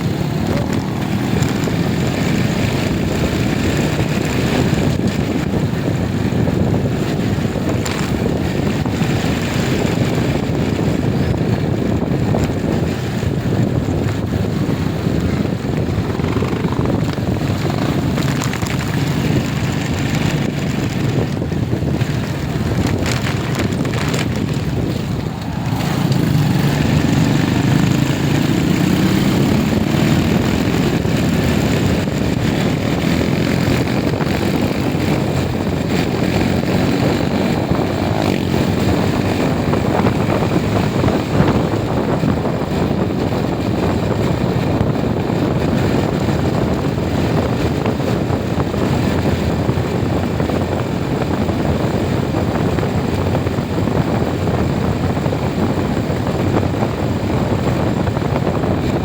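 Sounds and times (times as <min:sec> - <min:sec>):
vehicle engine running: 0:00.0 - 0:59.0
wind rushing over microphone: 0:00.0 - 0:59.0.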